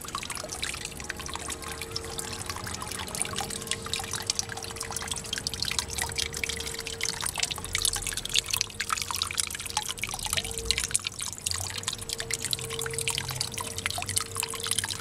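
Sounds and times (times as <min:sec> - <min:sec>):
faint steady hum: 0:00.0 - 0:15.0
water splashing into pond: 0:00.0 - 0:15.0.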